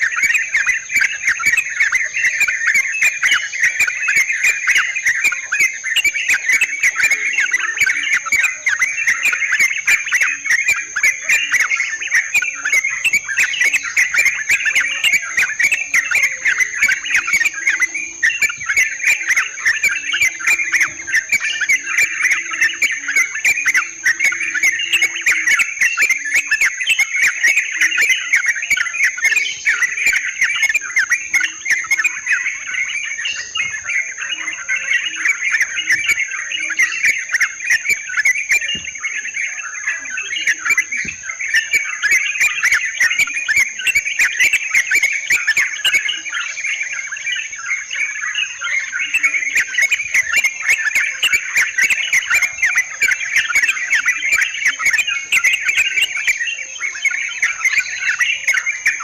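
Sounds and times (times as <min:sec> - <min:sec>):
bulbuls chattering: 0:00.0 - 0:59.0
high-pitched insect drone: 0:00.0 - 0:59.0.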